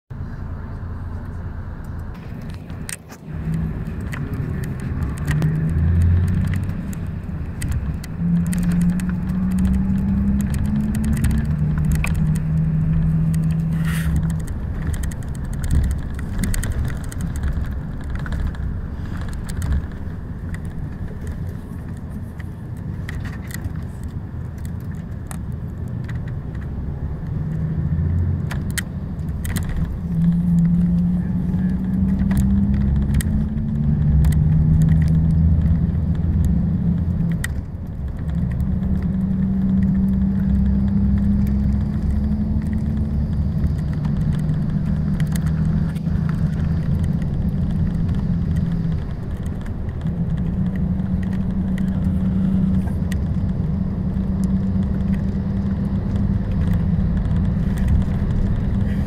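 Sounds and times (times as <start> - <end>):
coach engine and road rumble: 0.1 - 59.0.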